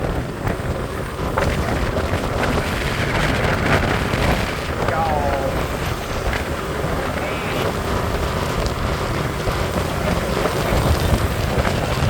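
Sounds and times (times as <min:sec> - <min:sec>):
street traffic: 0:00.0 - 0:12.0
wind buffeting microphone: 0:00.0 - 0:12.0.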